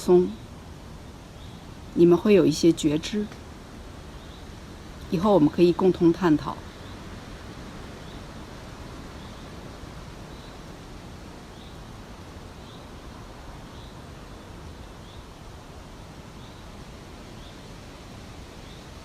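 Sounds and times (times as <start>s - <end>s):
background hiss: 0.0s - 19.0s.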